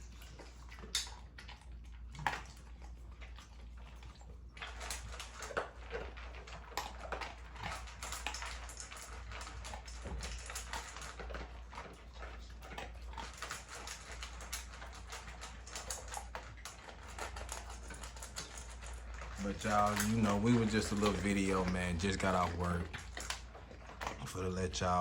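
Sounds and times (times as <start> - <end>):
dogs chewing dry food: 0.0 - 25.0.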